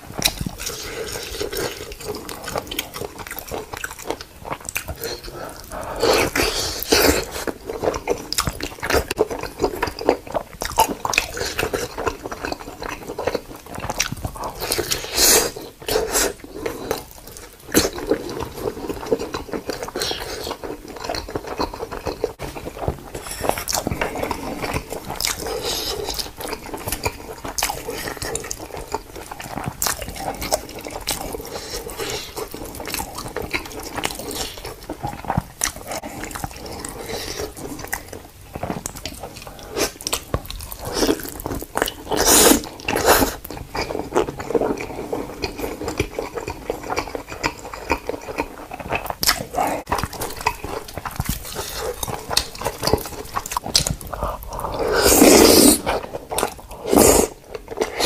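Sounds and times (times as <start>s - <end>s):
panda crunching and chewing food: 0.1s - 58.0s.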